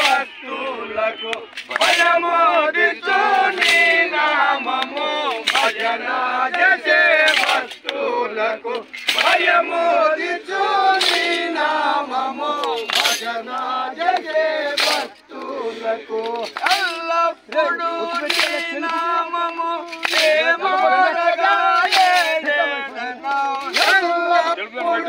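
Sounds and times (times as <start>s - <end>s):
men singing devotional song: 0.0s - 25.0s
sharp percussive strikes: 1.3s - 7.9s, 8.7s - 15.4s, 16.2s - 22.7s, 23.3s - 24.4s.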